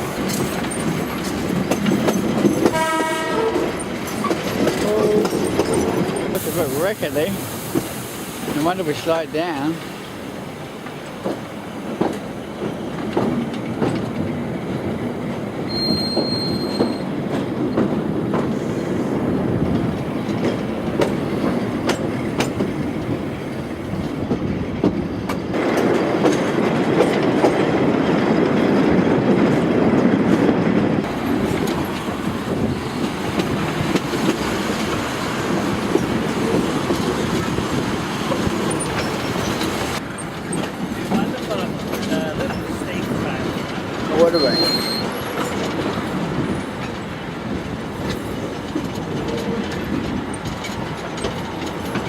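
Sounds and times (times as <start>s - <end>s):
railway carriage rumble and rattle: 0.0s - 52.0s
wheels clicking over rail joints: 0.0s - 52.0s.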